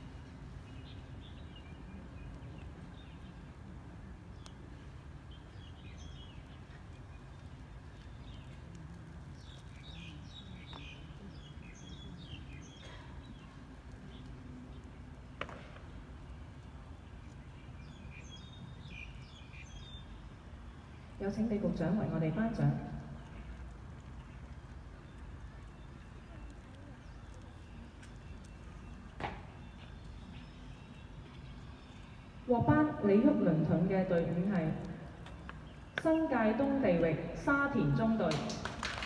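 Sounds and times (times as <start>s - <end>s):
small birds chirping: 0.0s - 38.6s.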